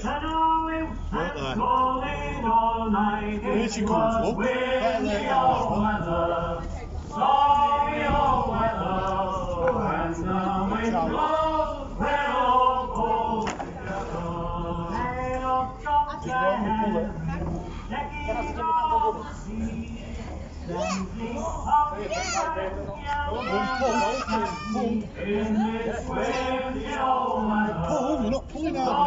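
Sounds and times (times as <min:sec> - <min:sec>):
men singing together: 0:00.0 - 0:20.2, 0:21.1 - 0:29.0
low steady rumble: 0:00.0 - 0:23.4.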